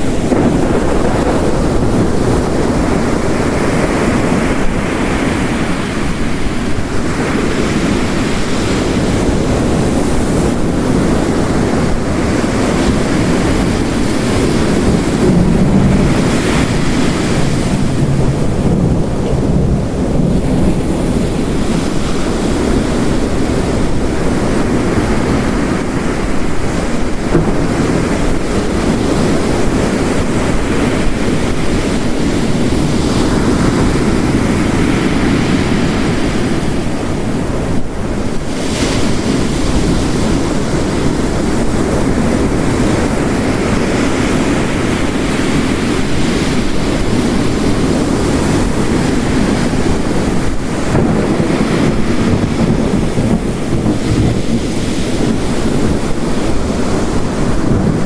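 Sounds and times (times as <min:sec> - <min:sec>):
heavy rain: 0:00.0 - 0:58.0
ocean waves breaking: 0:00.0 - 0:58.0.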